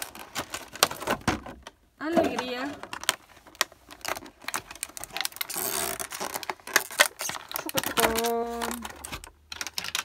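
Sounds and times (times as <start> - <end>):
plastic packaging crinkling: 0.0 - 1.7, 2.3 - 10.0.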